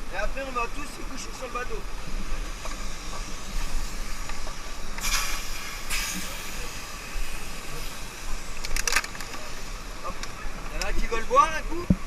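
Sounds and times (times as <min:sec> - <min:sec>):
hissing splashes: 0:00.0 - 0:12.0
river water rushing: 0:00.0 - 0:12.0.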